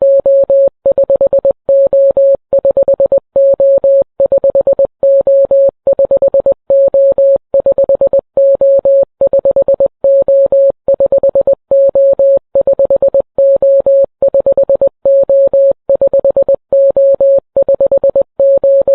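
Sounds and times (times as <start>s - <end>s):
morse code beeps: 0.0s - 18.9s.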